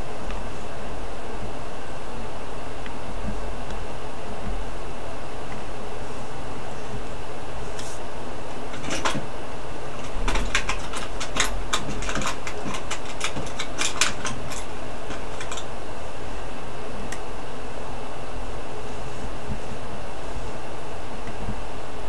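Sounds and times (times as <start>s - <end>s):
background hiss and hum: 0.0s - 22.0s.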